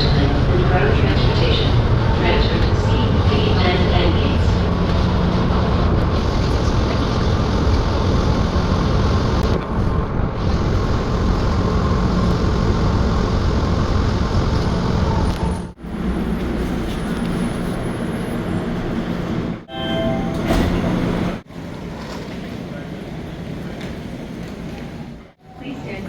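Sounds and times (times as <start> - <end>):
train rumbling in tunnel: 0.0 - 26.0.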